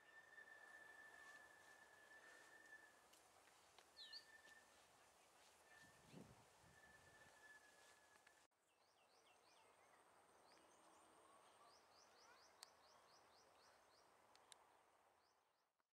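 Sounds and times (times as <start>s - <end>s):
birds chirping: 0.0s - 14.5s.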